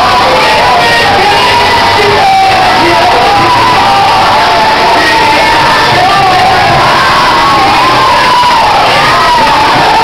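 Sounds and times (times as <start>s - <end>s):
congregation shouting and crying out: 0.0s - 10.0s
loud music: 0.0s - 10.0s.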